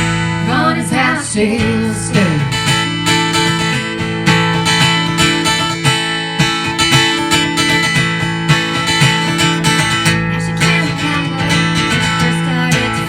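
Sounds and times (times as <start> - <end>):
live country-rock band playing: 0.0 - 13.0
strummed acoustic guitar: 0.0 - 13.0.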